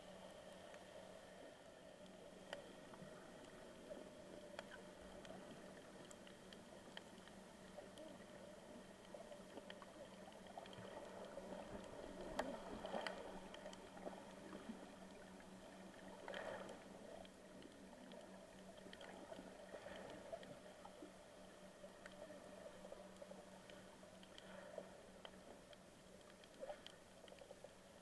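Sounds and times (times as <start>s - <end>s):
low steady underwater hum: 0.0s - 28.0s
small underwater clicks: 0.1s - 28.0s.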